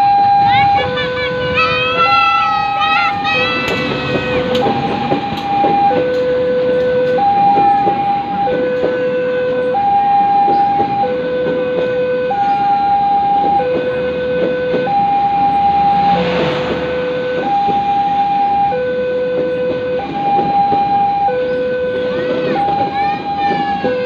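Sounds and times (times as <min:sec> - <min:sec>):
two-tone warning siren: 0:00.0 - 0:24.0.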